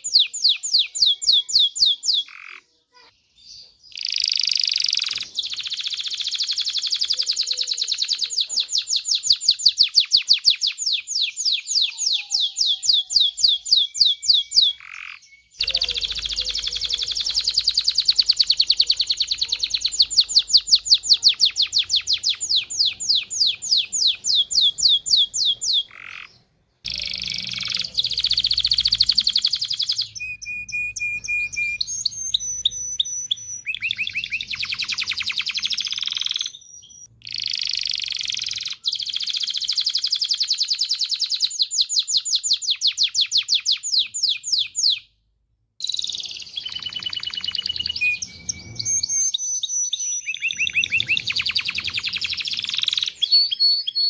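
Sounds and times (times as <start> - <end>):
canary singing trills: 0.0 - 45.1, 45.8 - 54.0.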